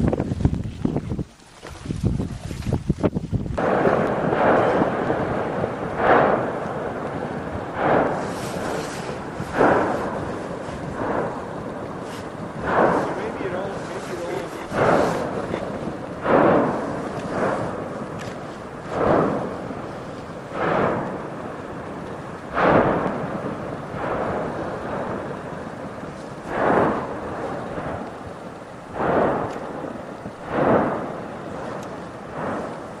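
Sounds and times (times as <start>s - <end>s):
volcanic explosions with rumble: 0.0s - 33.0s.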